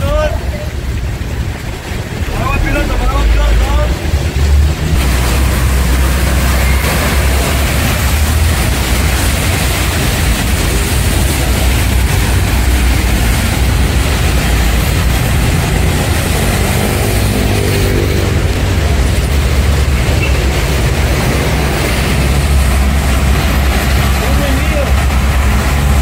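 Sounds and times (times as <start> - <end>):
low rumble: 0.0 - 24.3
car engines passing: 0.0 - 26.0
tyres hissing on wet road: 0.0 - 26.0
motorcycle engine: 3.7 - 26.0.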